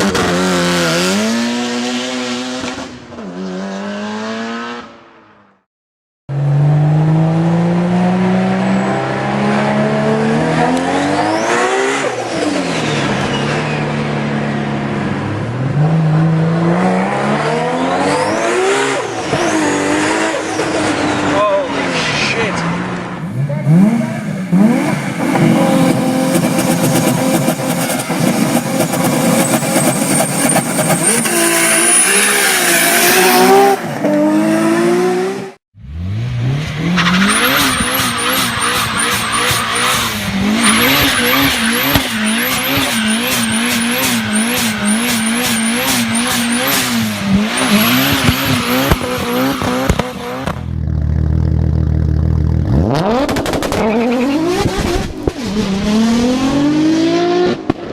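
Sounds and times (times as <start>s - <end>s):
car engines revving hard: 0.0s - 5.1s, 6.3s - 57.9s.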